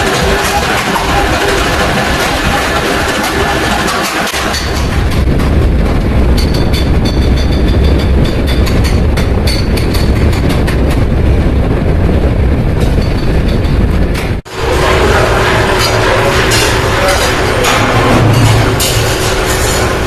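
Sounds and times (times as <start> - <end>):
workshop machinery rumbling: 0.0 - 20.0.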